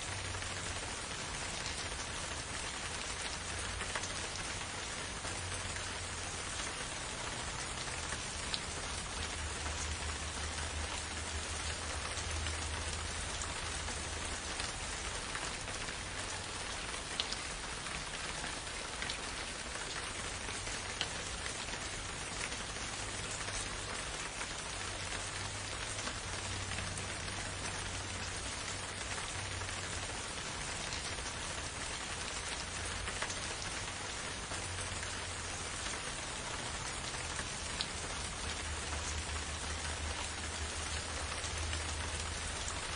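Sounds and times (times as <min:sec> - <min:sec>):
steady rain hiss: 0:00.0 - 0:42.9
raindrops ticking: 0:00.1 - 0:42.9.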